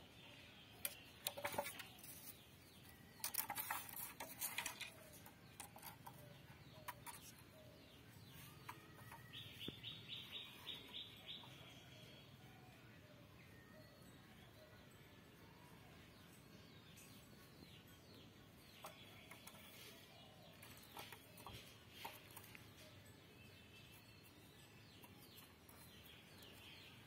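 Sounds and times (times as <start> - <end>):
faint birdsong: 0.0 - 27.0.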